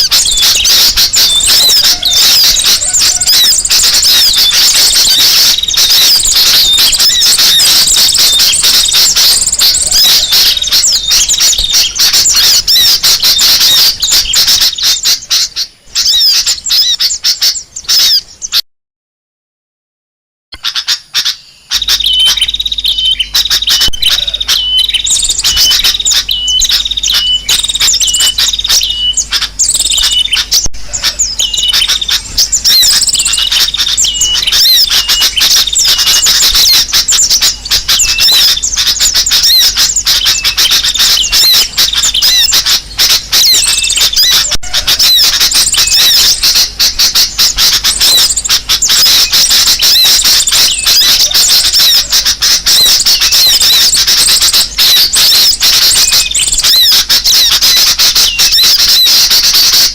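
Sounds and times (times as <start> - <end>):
high bird call: 0.0 - 18.6, 20.6 - 59.9
small birds calling and chattering: 0.0 - 18.6, 20.6 - 59.9.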